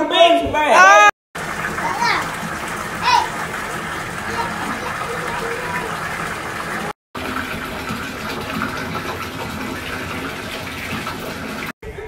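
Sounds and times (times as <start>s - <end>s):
water running into bathtub: 1.3s - 11.8s.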